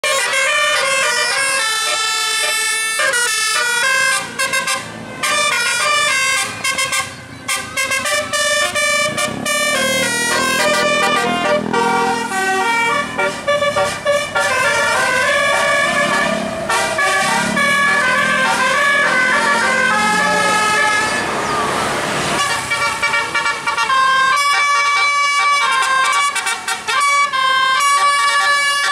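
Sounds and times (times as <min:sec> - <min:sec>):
musical bus horns playing tunes: 0:00.0 - 0:28.9.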